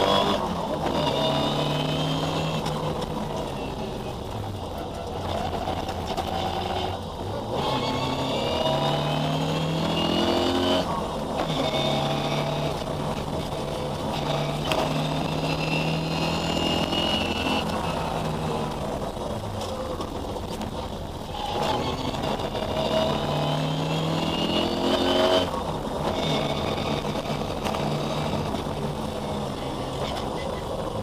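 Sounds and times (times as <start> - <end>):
rally car engine revving: 0.0 - 31.0
road and tyre noise: 0.0 - 31.0.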